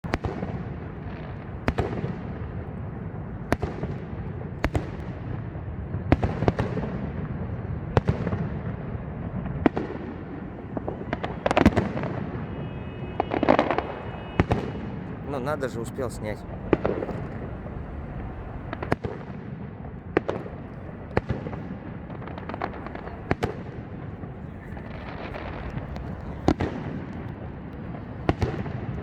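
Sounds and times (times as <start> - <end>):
crackling firework reports: 0.0 - 29.0
firework bangs with echo: 0.0 - 29.0.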